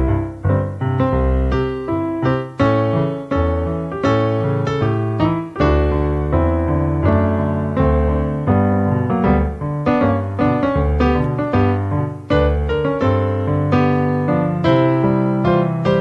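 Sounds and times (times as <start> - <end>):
solo piano chords: 0.0 - 16.0.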